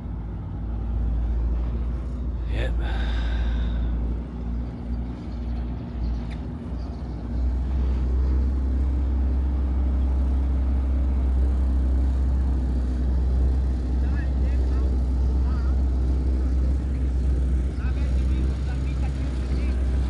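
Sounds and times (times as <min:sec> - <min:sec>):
motorboat engine droning: 0:00.0 - 0:20.0.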